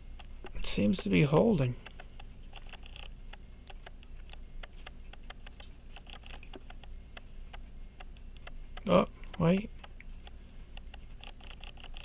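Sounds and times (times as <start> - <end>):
pocket watch winding clicks: 1.8 - 12.0.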